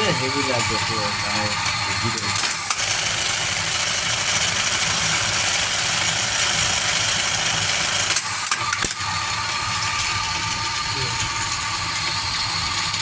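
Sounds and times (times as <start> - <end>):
electric sewing machine running: 0.0 - 13.0.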